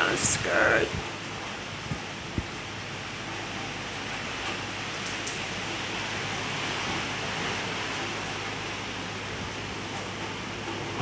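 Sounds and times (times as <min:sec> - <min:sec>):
hurricane wind: 0:00.0 - 0:11.0
rain: 0:00.0 - 0:11.0.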